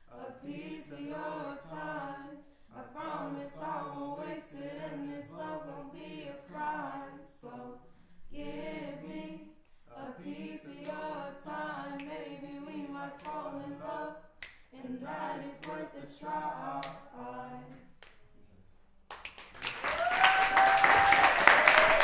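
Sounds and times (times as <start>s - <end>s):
young voices singing a cappella: 0.0s - 18.1s.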